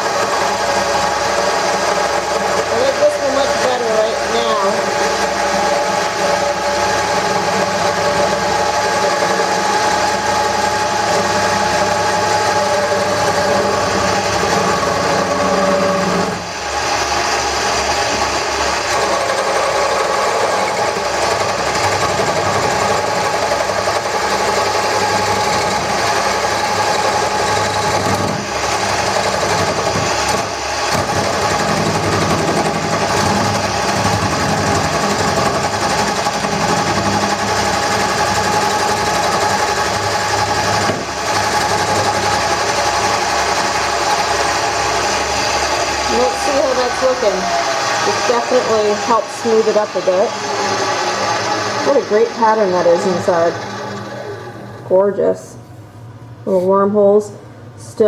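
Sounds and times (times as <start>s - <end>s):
turning tool scraping wood: 0.0s - 54.3s
wood lathe running: 0.0s - 55.1s.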